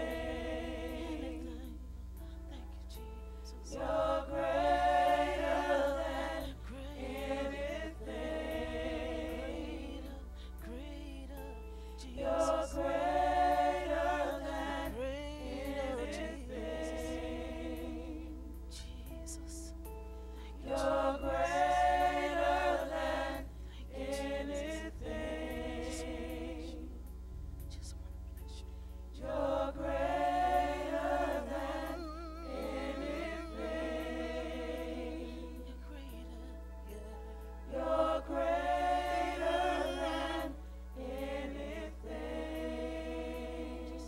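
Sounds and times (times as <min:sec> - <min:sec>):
voices singing with vibrato: 0:00.0 - 0:01.9, 0:03.6 - 0:19.7, 0:20.6 - 0:27.0, 0:29.2 - 0:44.0
soft sustained accompaniment: 0:00.0 - 0:44.0.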